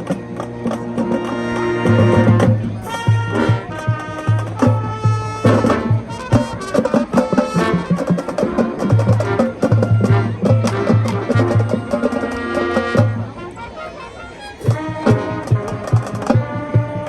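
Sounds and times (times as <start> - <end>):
drum line strokes: 0.0 - 13.6, 14.5 - 17.0
brass chords: 0.0 - 17.0.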